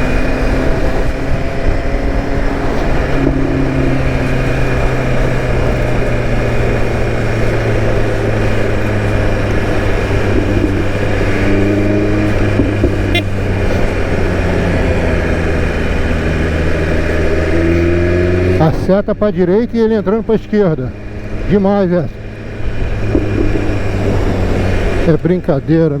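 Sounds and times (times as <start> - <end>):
motorcycle engine running: 0.0 - 26.0
road noise: 0.0 - 26.0.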